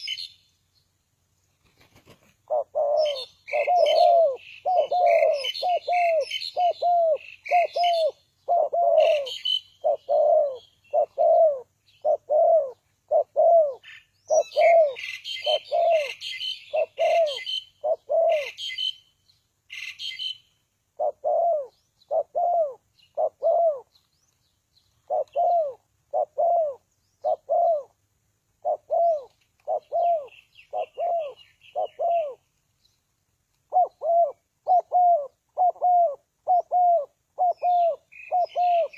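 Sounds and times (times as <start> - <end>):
small birds chirping: 0.0 - 28.0, 28.6 - 38.9
dove cooing: 2.4 - 18.8, 21.0 - 24.0, 25.0 - 28.0, 28.6 - 32.4, 33.7 - 38.9.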